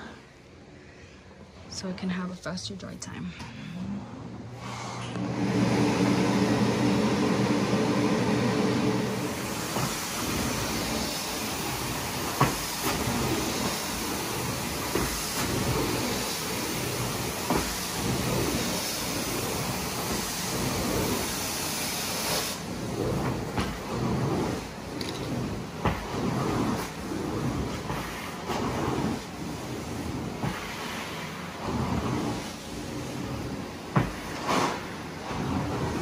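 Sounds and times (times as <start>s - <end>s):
fan blowing air: 1.4s - 36.0s
fan motor hum: 1.6s - 36.0s.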